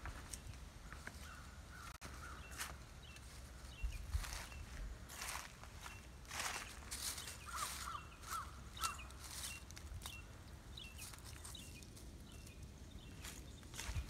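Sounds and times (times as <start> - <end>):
dry leaves rustling: 0.0 - 14.0
bird chirping: 0.2 - 14.0.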